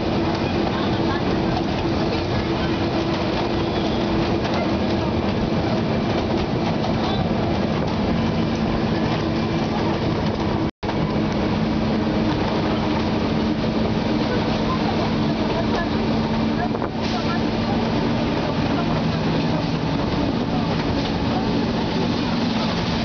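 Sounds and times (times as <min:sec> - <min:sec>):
diesel locomotive engine drone: 0:00.0 - 0:23.0
train rumble: 0:00.0 - 0:23.0.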